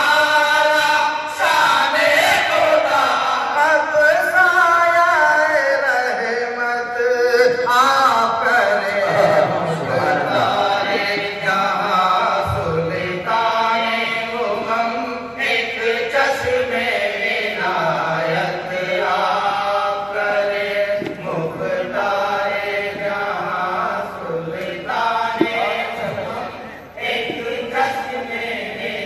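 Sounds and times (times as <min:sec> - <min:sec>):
men chanting through a microphone: 0:00.0 - 0:29.0.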